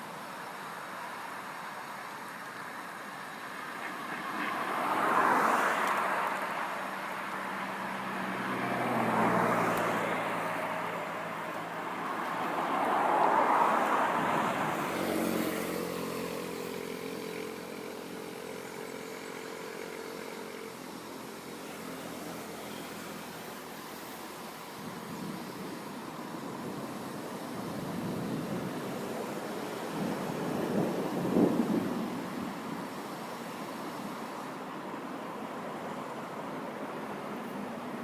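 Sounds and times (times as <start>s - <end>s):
steady low traffic hum: 0.0s - 38.0s
vehicles passing: 0.0s - 38.0s.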